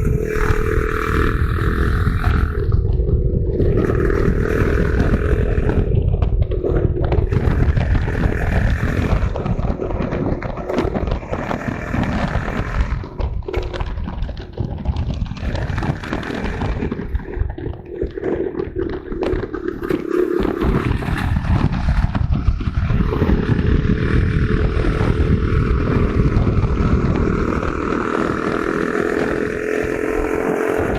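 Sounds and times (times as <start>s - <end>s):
small motorcycle engine running: 0.0s - 30.9s.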